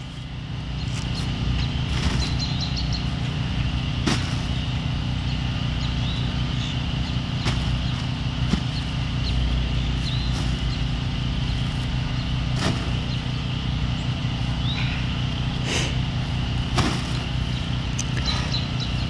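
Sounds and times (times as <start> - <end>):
generator humming: 0.0 - 19.0.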